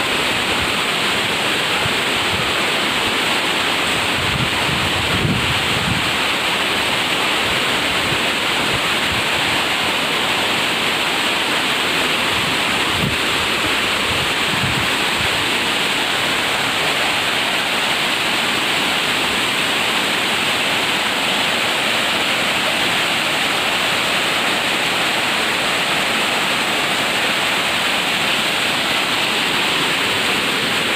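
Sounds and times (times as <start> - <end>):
waterfall splashing: 0.0 - 30.9.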